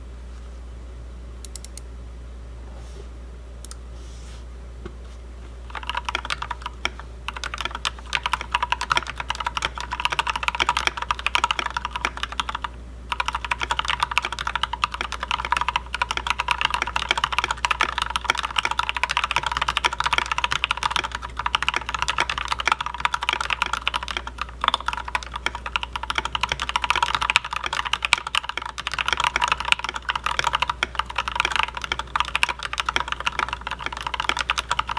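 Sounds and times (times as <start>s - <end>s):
typing on mechanical keyboard: 5.7s - 34.9s.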